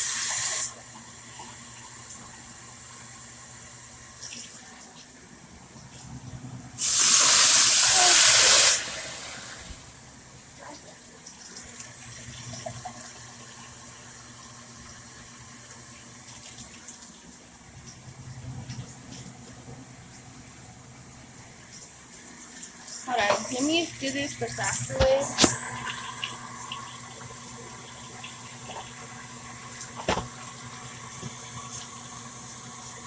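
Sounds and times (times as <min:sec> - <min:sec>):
tap water running into a pot: 0:00.0 - 0:05.2, 0:06.8 - 0:33.0.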